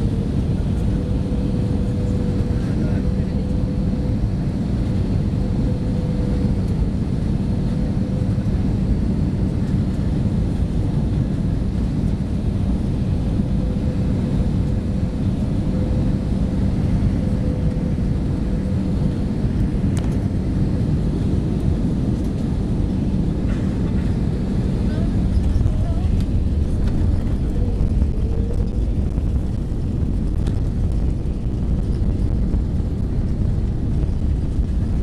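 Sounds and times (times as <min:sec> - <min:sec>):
airplane cabin engine roar: 0:00.0 - 0:35.0.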